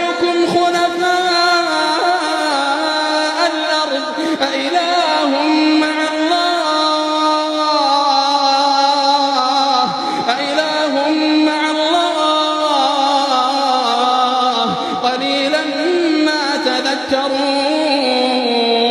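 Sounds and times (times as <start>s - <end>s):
man chanting melodically: 0.0s - 18.9s.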